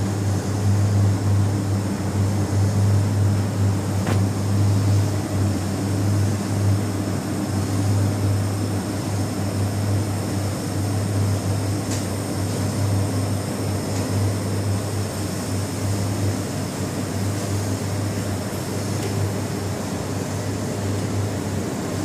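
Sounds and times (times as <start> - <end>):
low machine hum with hiss: 0.0 - 22.0.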